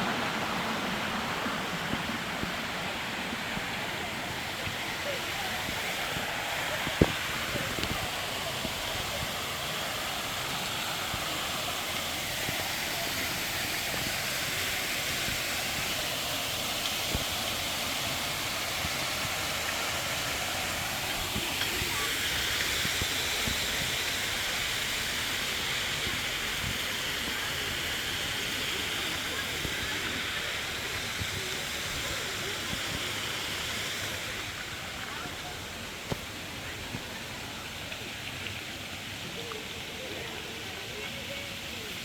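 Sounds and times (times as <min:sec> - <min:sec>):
steady hissing rushing noise: 0:00.0 - 0:42.0.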